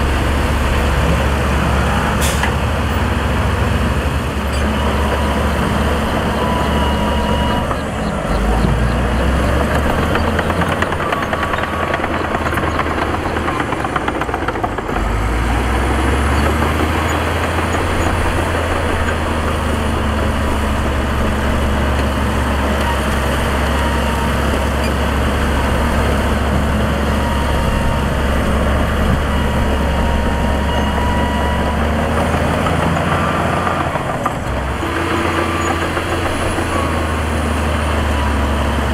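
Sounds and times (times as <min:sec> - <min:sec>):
heavy diesel engines rumbling: 0:00.0 - 0:38.9.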